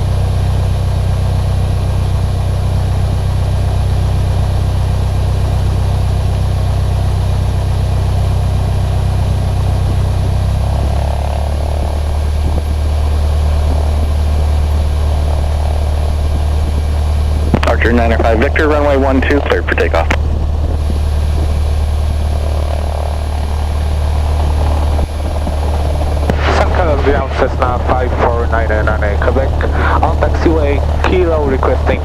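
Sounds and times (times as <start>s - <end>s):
light aircraft engine idling: 0.0s - 32.0s.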